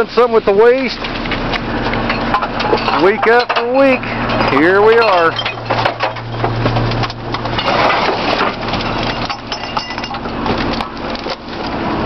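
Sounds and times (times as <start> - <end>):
truck low hum: 0.0 - 12.0.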